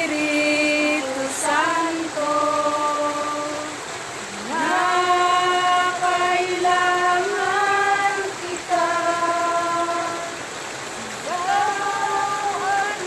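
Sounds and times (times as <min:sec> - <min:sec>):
river rushing: 0:00.0 - 0:13.0
women singing devotional song: 0:00.0 - 0:13.0.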